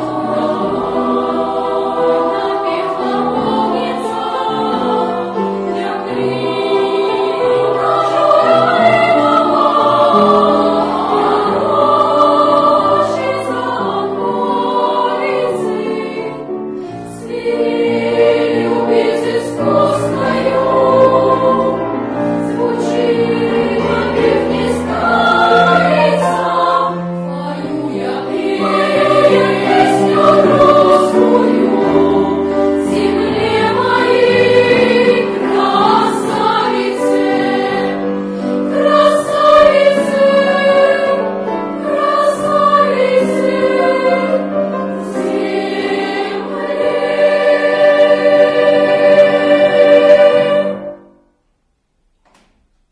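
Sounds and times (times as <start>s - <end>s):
children's choir singing: 0.0s - 51.4s.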